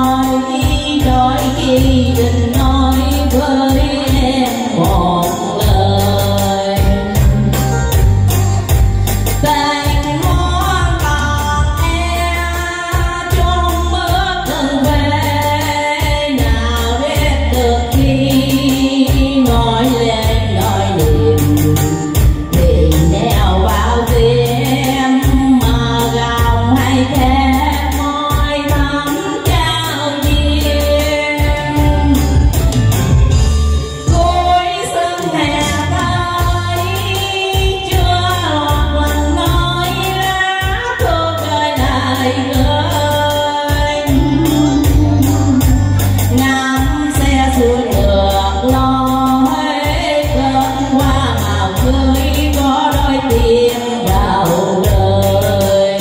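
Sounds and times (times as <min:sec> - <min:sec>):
backing music with bass beat: 0:00.0 - 0:56.0
woman singing into a microphone: 0:00.0 - 0:56.0.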